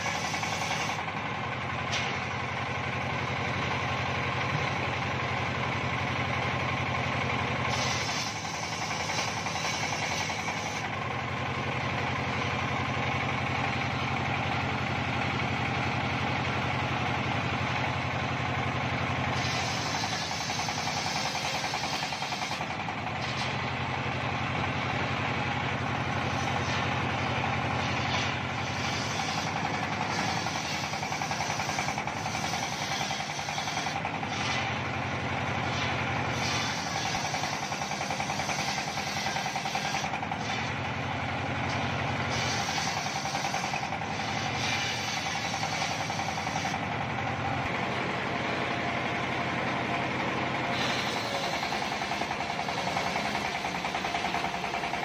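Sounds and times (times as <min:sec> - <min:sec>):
engine low drone: 0:00.0 - 0:55.0.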